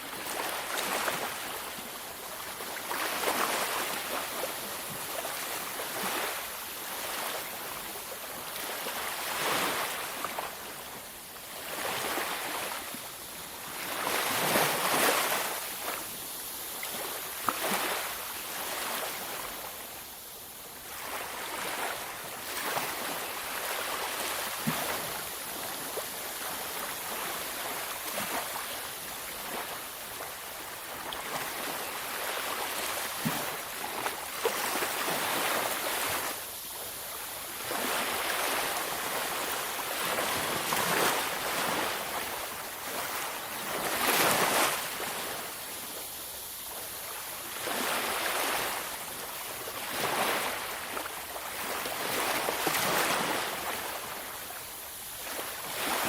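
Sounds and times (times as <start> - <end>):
waves washing onto beach: 0.0 - 56.0.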